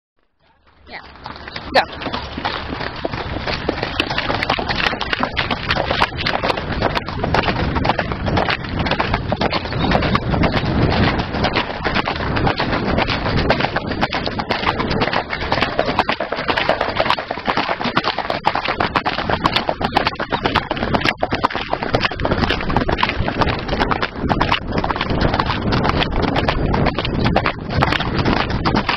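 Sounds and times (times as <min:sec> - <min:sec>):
horse hooves on asphalt: 0:00.5 - 0:28.9
steady rushing noise: 0:00.9 - 0:28.9.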